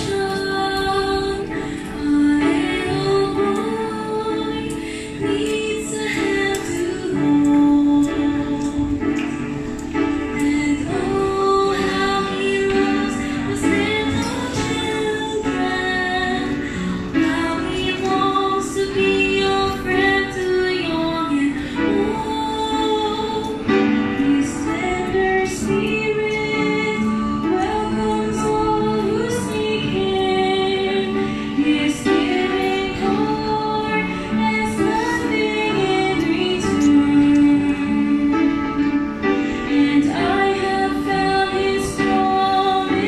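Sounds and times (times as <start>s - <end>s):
group singing a hymn: 0.0s - 9.3s, 10.4s - 43.0s
piano accompaniment: 0.0s - 43.0s.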